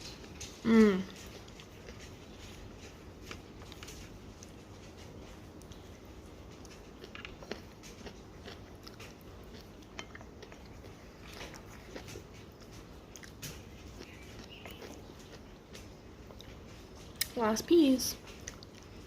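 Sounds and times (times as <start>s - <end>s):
person chewing crunchy food: 0.0s - 17.4s, 18.2s - 19.0s.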